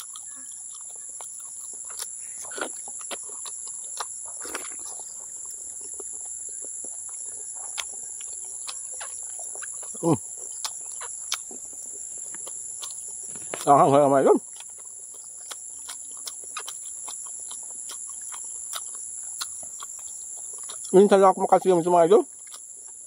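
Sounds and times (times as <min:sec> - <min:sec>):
insects trilling: 0:00.0 - 0:23.0
wet chewing clicks and smacks: 0:00.0 - 0:23.0.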